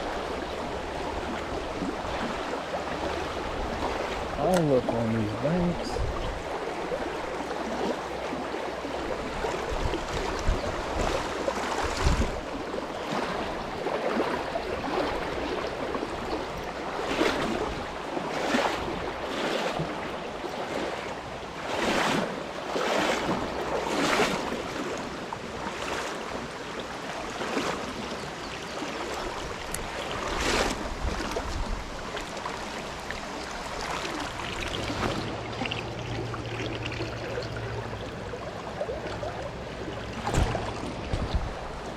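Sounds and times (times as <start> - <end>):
swishing splashes: 0.0 - 28.2, 28.8 - 41.9
stream water flowing: 0.0 - 41.9.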